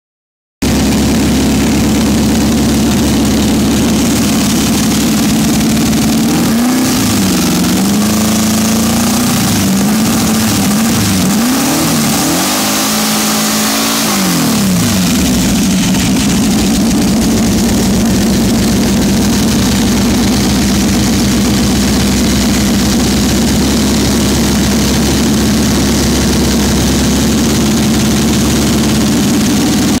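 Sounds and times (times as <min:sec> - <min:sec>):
engine idling and revving: 0:00.6 - 0:30.0.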